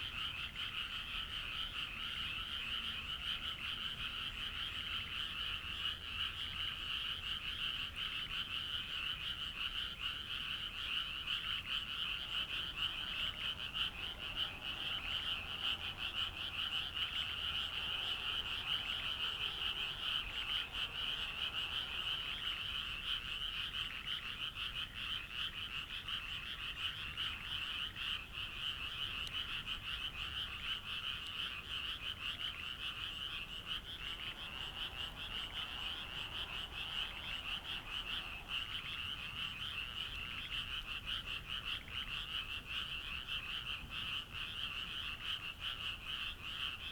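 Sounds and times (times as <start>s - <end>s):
chorus of frogs calling: 0.0s - 46.9s.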